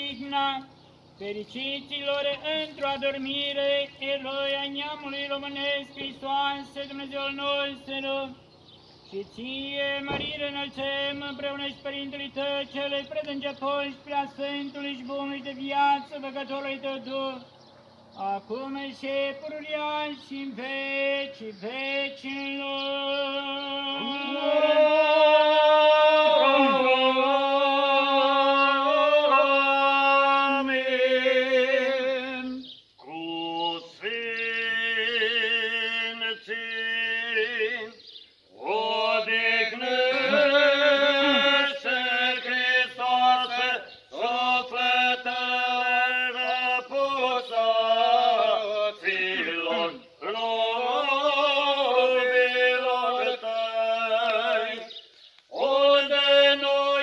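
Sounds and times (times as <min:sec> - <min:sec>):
liturgical chant singing: 0:00.0 - 0:57.0.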